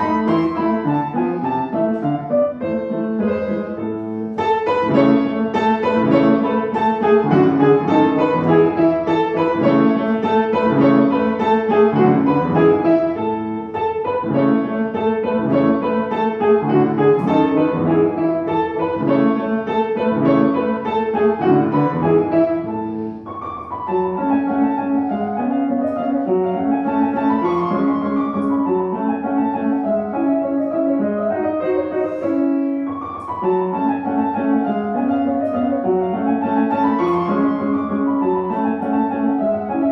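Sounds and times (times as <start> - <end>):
classical piano piece: 0.0 - 39.9.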